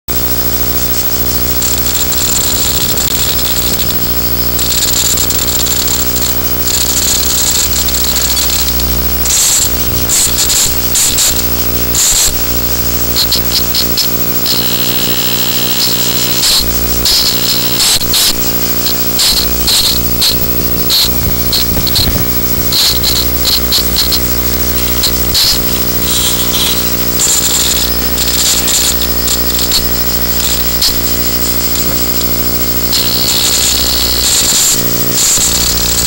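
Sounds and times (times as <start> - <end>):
loud buzz with hiss: 0.1 - 36.0.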